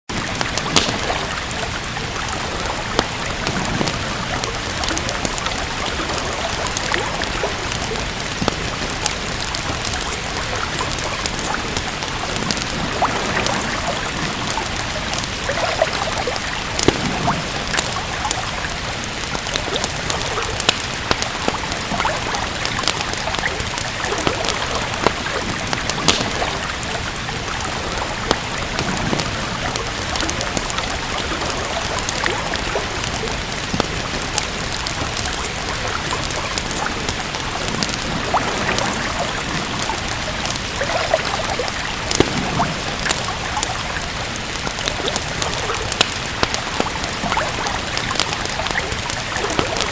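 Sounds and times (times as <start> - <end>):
steady rain: 0.1 - 49.9
wood fire crackling: 0.1 - 49.9.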